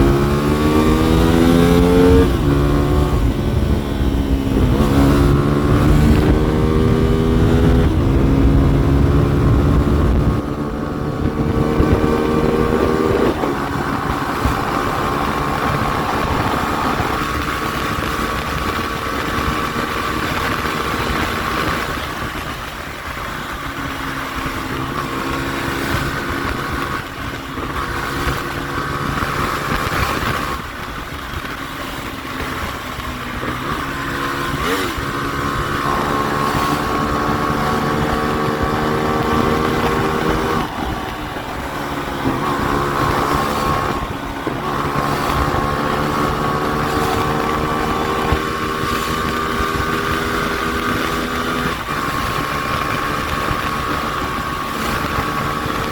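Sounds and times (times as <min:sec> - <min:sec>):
motorcycle engine shifting gears: 0:00.0 - 0:55.9
wind noise on microphone: 0:00.0 - 0:55.9.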